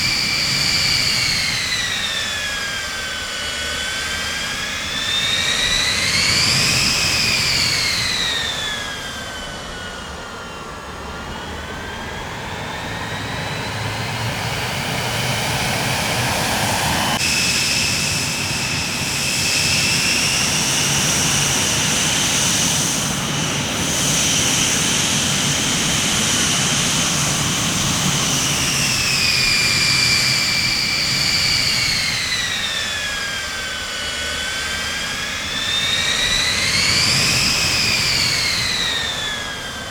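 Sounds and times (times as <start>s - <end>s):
jet engine turbine whine: 0.0s - 39.9s.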